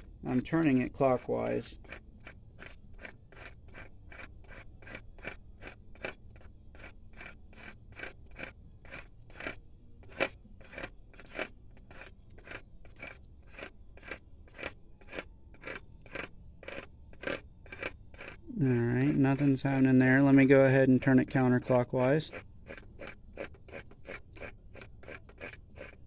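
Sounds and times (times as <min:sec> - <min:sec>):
oil pump shaft clicking: 0:00.0 - 0:26.0.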